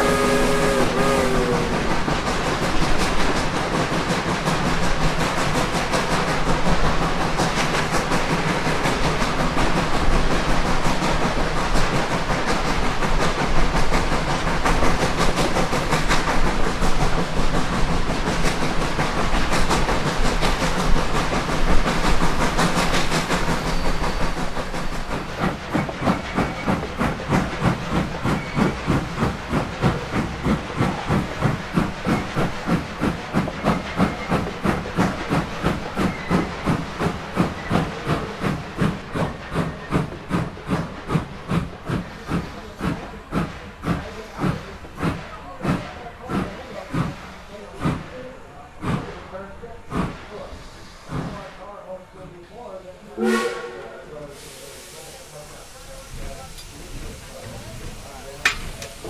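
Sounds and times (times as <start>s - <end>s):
steam locomotive exhaust chuffs: 0.0s - 51.9s, 53.0s - 59.0s
steam train rushing: 0.0s - 59.0s.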